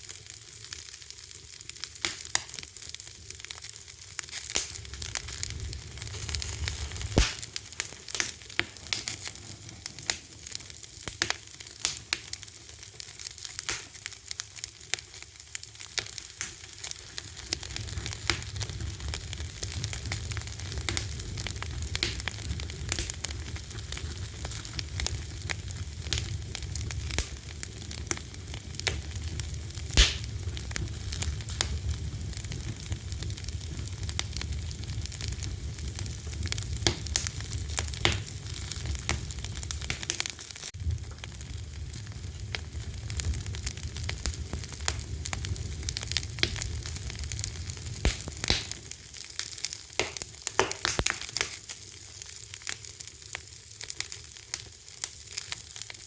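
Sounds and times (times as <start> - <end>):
fire crackling: 0.0 - 56.0
low fire rumble: 0.1 - 56.0.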